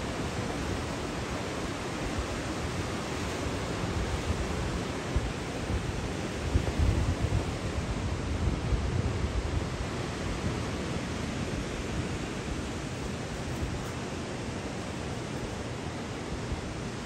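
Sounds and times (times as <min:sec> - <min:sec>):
low wind buffeting gusts: 0:00.0 - 0:17.0
ocean surf: 0:00.0 - 0:17.0
wind: 0:00.0 - 0:17.0.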